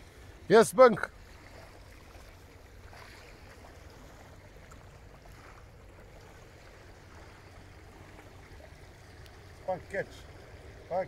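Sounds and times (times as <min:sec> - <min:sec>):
small waves lapping: 0:00.0 - 0:11.0.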